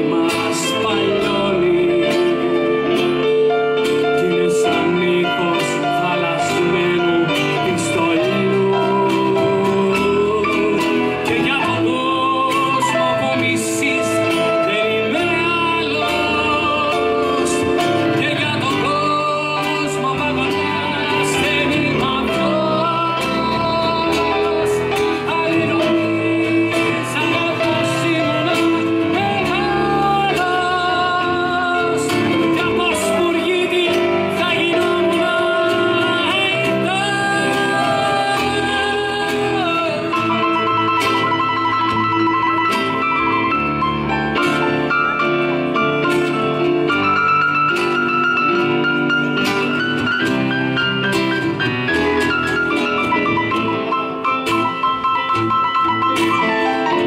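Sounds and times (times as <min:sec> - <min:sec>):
man singing: 0:00.0 - 0:57.0
strummed acoustic guitar: 0:00.0 - 0:57.0.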